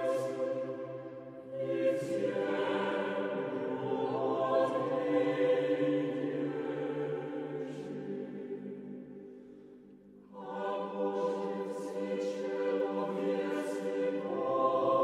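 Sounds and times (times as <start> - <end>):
choir singing a chant: 0.0 - 9.5, 10.3 - 15.0.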